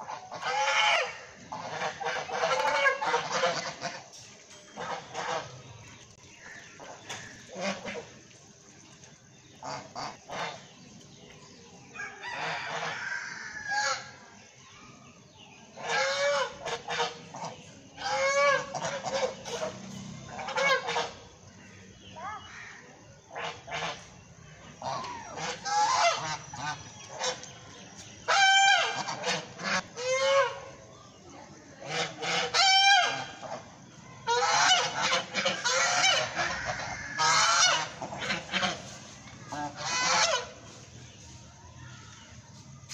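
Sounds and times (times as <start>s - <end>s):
geese honking: 0.0s - 4.2s, 4.8s - 8.3s, 9.6s - 10.8s, 12.0s - 14.2s, 15.7s - 21.6s, 22.3s - 31.2s, 31.8s - 41.3s.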